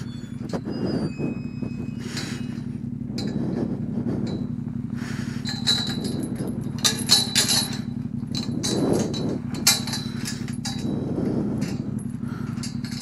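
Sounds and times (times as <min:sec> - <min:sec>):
metal gate clanking: 0:00.0 - 0:03.5, 0:04.3 - 0:13.0
motorcycle engine idling: 0:00.0 - 0:13.0.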